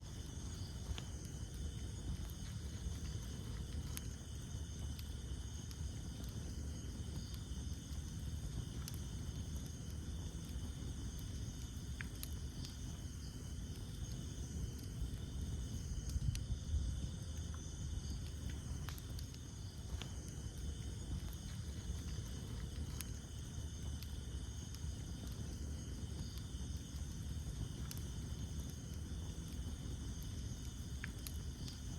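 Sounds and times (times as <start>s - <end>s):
campfire crackling and popping: 0.0s - 31.9s
insects trilling: 0.0s - 31.9s.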